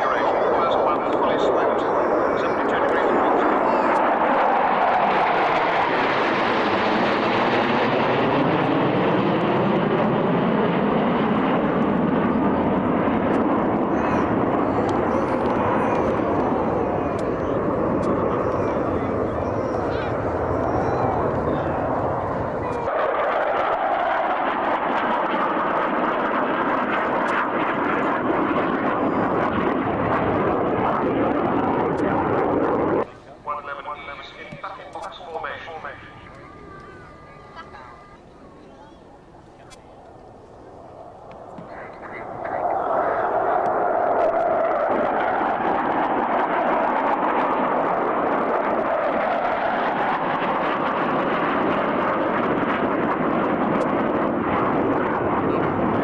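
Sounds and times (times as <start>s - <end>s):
jet noise flying past: 0.0s - 56.0s.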